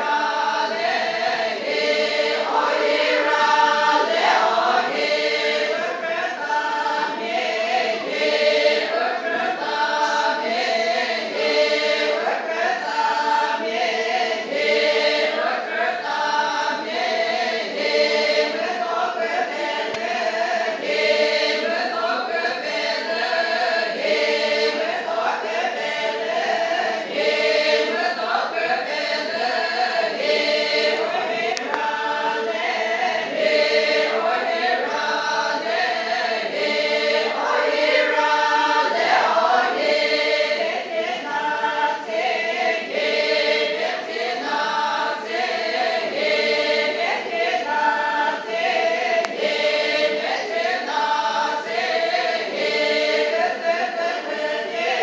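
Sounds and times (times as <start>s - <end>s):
group singing unaccompanied: 0.0s - 55.0s.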